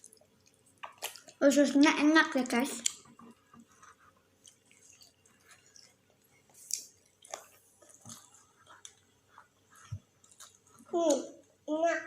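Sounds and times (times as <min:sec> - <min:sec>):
wet chewing sounds: 0:00.0 - 0:11.6.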